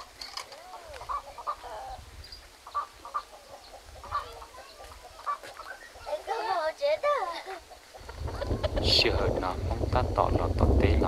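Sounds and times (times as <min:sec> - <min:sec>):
chickens clucking: 0:00.0 - 0:10.5.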